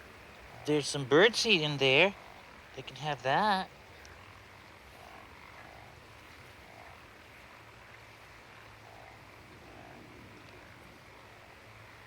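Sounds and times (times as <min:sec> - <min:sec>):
frogs croaking faintly: 0:00.0 - 0:12.0.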